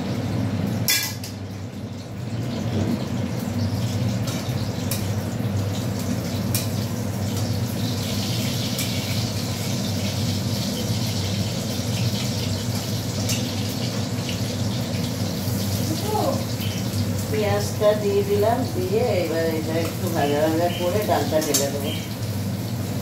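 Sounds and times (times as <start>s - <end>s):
onion sizzling in oil: 0.0s - 23.0s.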